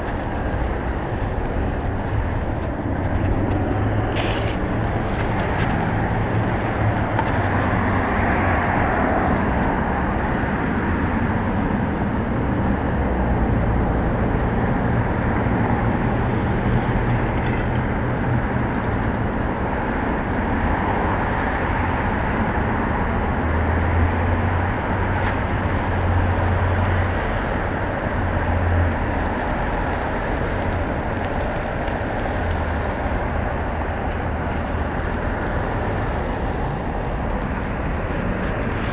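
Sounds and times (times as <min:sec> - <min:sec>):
cars and trucks passing: 0:00.0 - 0:38.9
steady background noise: 0:00.0 - 0:38.9.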